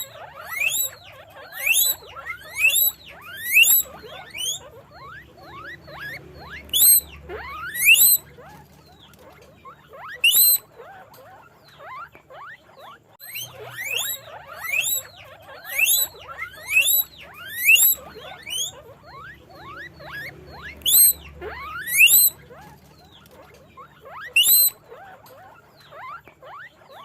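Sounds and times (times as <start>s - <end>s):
guinea pigs wheeking: 0.0s - 27.0s.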